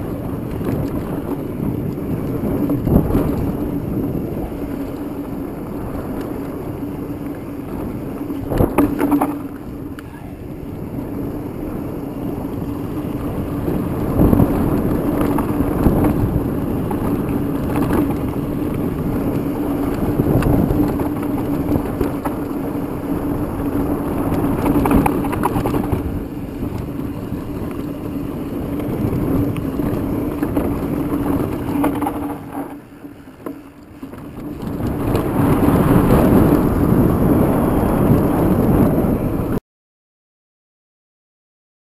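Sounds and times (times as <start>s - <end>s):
tyres rolling over dirt: 0.0s - 39.5s
bike rattling over bumps: 0.0s - 39.6s
wind buffeting microphone: 0.0s - 39.6s.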